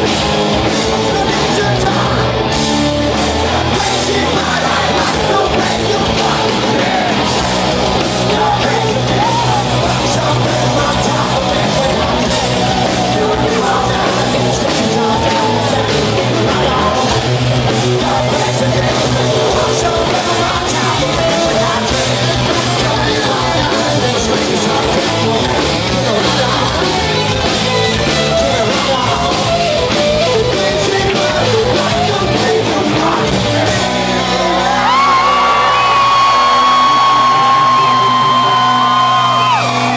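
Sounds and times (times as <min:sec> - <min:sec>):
distorted electric guitars: 0:00.0 - 0:39.9
drums: 0:00.0 - 0:39.9
person singing: 0:00.6 - 0:39.9.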